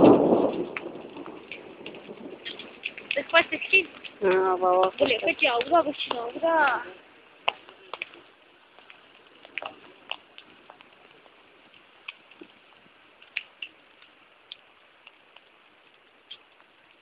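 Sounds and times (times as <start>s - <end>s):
floodwater rushing: 0.0s - 17.0s
sharp drip-like ticks: 0.4s - 17.0s.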